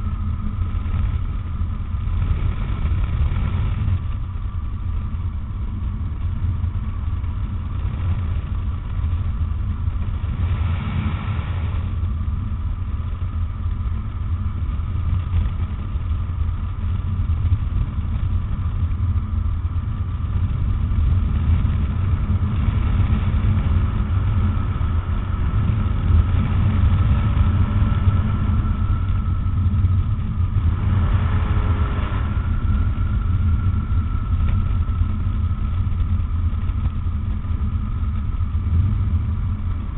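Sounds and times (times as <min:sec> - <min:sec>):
microlight engine and propeller droning: 0:00.0 - 0:39.9.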